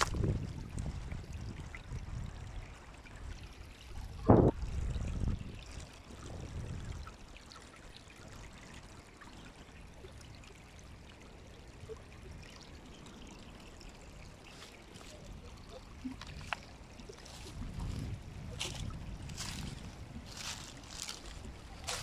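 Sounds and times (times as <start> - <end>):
creek trickling over stones: 0.0 - 22.0.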